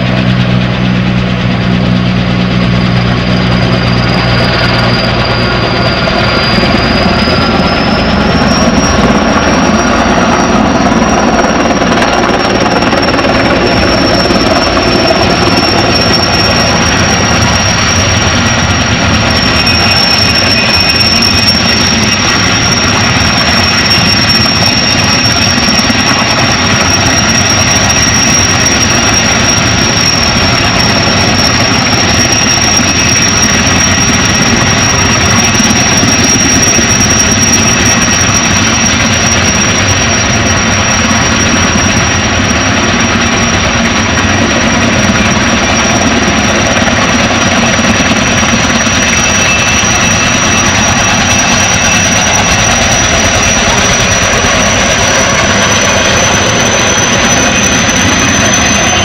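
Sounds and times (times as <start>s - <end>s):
helicopter turbine whining: 0.0s - 59.0s.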